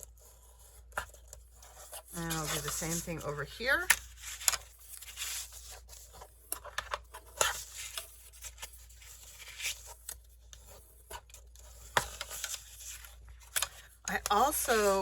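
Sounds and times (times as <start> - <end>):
card folding rustling: 0.0 - 15.0.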